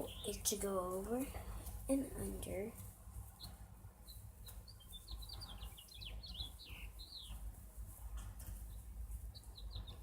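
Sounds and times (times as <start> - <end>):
small bird chirping: 0.0 - 7.6, 8.2 - 10.0
faint low hum: 0.0 - 10.0.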